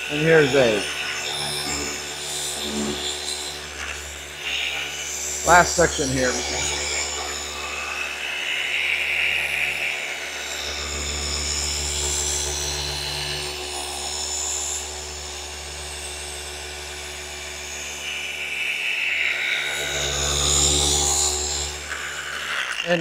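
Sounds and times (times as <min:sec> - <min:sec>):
orbital polisher motor whine: 0:00.0 - 0:23.0.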